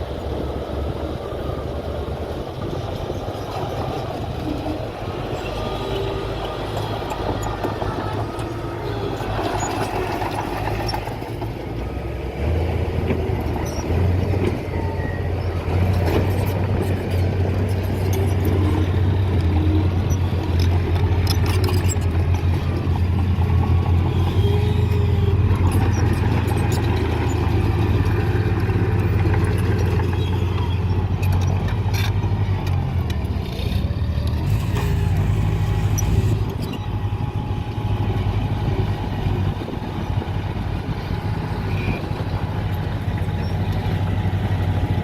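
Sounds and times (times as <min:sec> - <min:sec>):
diesel engine droning: 0:00.0 - 0:45.0.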